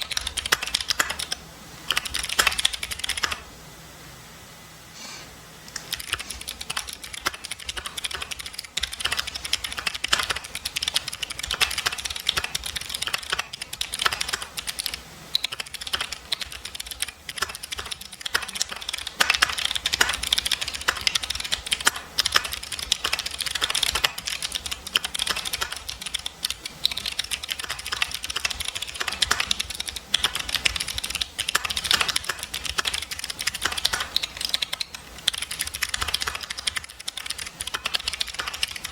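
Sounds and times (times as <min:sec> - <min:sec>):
mechanical keyboard typing: 0:00.0 - 0:03.4, 0:05.7 - 0:38.9.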